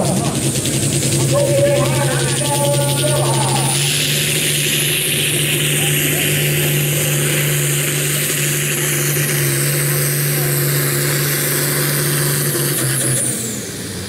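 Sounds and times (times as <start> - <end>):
high turbo whine: 0.0 - 14.0
tractor diesel engine under load: 0.0 - 14.0.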